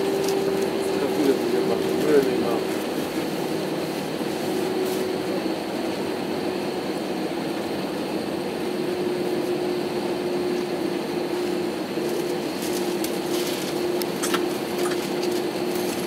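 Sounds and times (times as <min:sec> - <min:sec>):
airplane cabin engine hum: 0:00.0 - 0:16.0.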